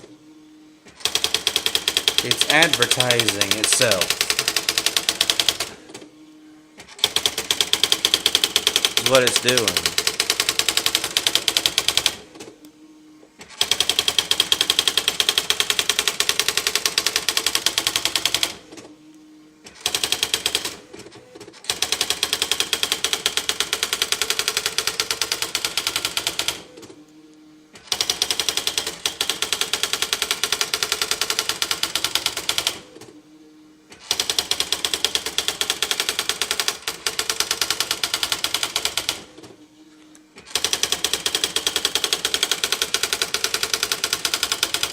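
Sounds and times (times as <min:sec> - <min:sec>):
electronic typewriter printing rattle: 0:00.9 - 0:06.0, 0:06.8 - 0:12.5, 0:13.4 - 0:18.8, 0:19.6 - 0:26.8, 0:27.7 - 0:33.1, 0:33.9 - 0:39.5, 0:40.4 - 0:44.9.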